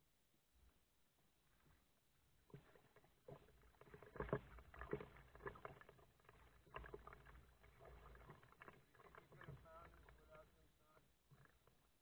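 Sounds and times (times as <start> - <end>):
paddle splashing water: 1.4 - 12.0.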